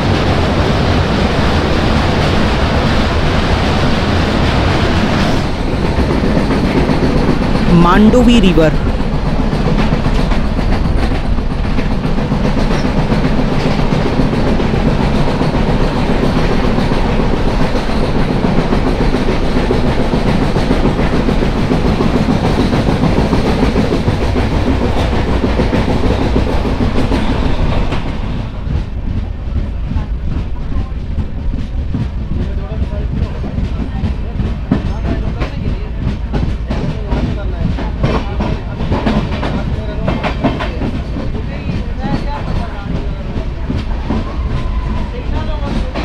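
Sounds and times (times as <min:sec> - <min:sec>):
train wheels on rails: 0:00.0 - 0:46.0.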